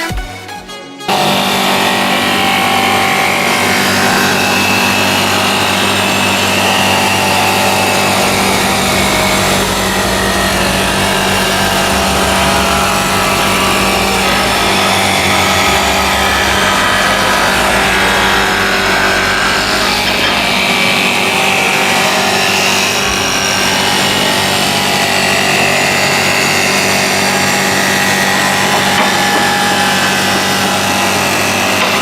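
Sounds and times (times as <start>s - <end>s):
power tool cutting wood: 1.1s - 32.0s.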